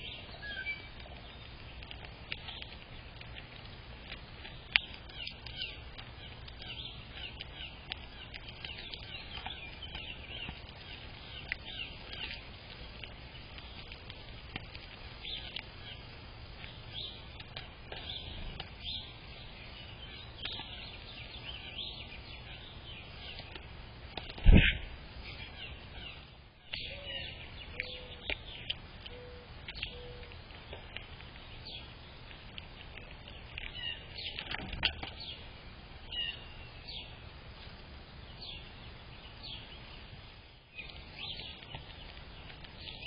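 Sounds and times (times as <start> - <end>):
birds chirping: 0.0 - 37.3, 38.2 - 43.0.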